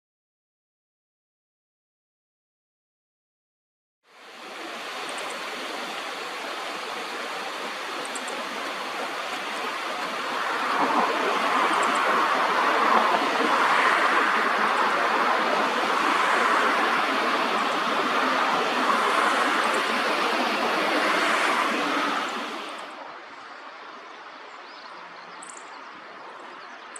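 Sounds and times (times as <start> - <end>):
rushing stream water: 4.1 - 26.9.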